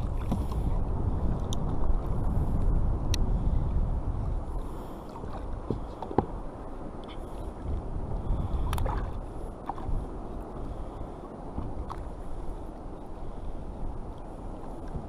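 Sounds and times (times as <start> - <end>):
water lapping against hull: 0.0 - 15.0
wind on microphone: 0.0 - 15.0.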